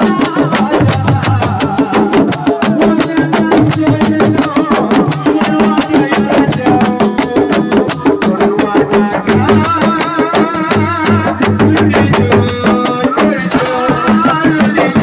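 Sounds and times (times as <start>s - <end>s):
fast dense drumming: 0.0s - 15.0s
sharp clacking percussion: 0.0s - 15.0s
pitched backing: 0.7s - 15.0s.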